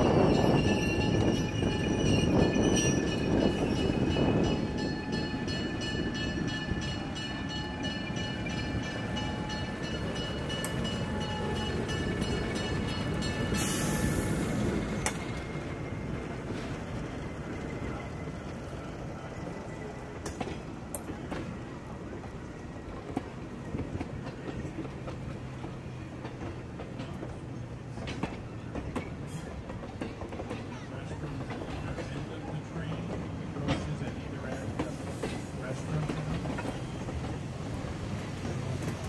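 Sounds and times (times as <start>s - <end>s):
train rumble: 0.0s - 39.0s
train wheels clicking over rail joints: 0.0s - 39.0s.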